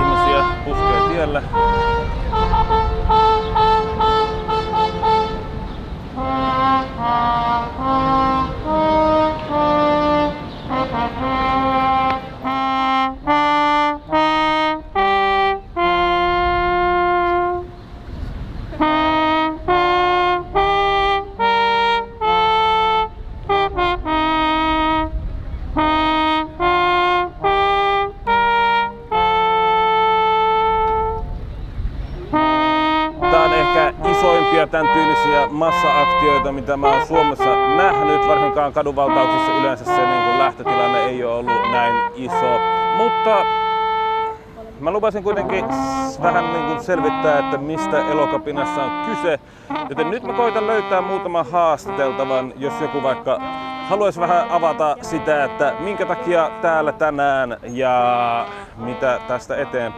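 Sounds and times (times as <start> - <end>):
brass instrument melody: 0.0 - 59.9.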